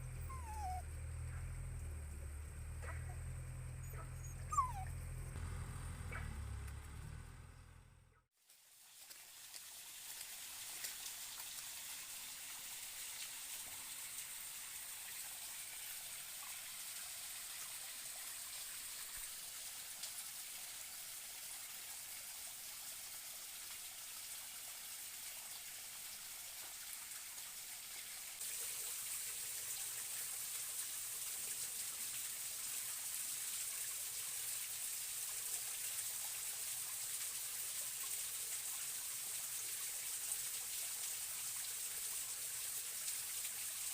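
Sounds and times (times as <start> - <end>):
stream water running: 0.0 - 5.6, 8.4 - 43.9.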